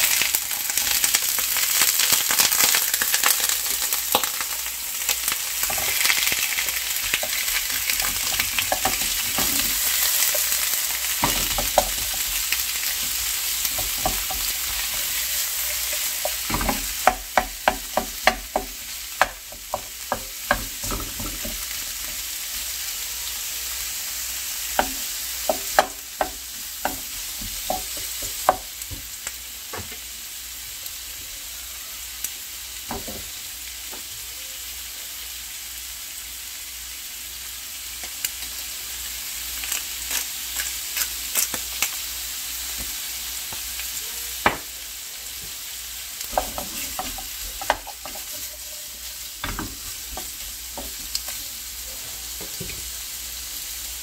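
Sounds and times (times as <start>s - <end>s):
squid sizzling in frying pan: 0.0s - 54.0s.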